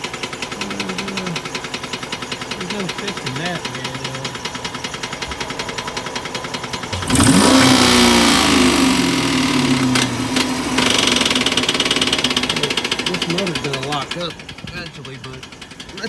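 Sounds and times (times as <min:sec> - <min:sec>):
knocking engine idling and revving: 0:00.0 - 0:16.0.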